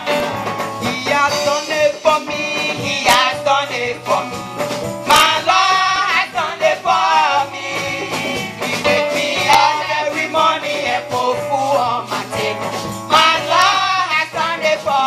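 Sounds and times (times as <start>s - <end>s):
instrumental accompaniment: 0.0s - 15.0s
voices singing worship song: 0.0s - 15.0s.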